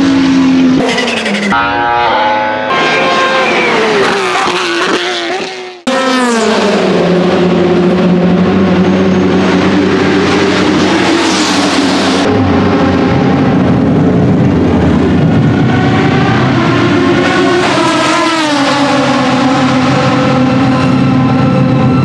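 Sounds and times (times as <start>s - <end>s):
race car engine droning at low revs: 0.0s - 22.0s.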